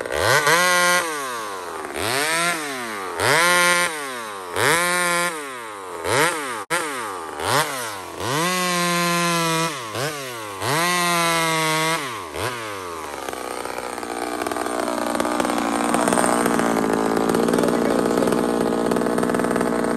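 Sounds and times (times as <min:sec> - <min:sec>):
chainsaw cutting log: 0:00.0 - 0:19.9
chainsaw revving: 0:00.0 - 0:19.9.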